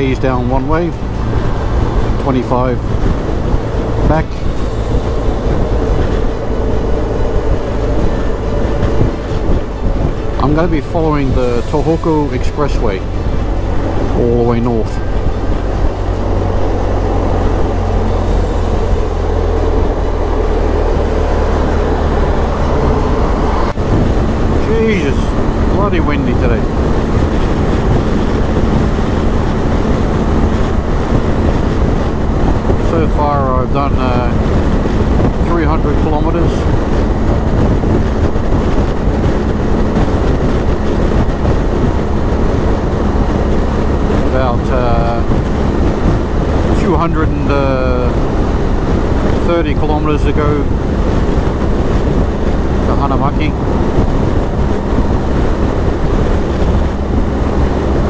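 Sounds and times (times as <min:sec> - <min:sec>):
motorcycle engine: 0:00.0 - 0:49.4
road noise: 0:00.0 - 0:58.0
wind buffeting microphone: 0:00.0 - 0:58.0.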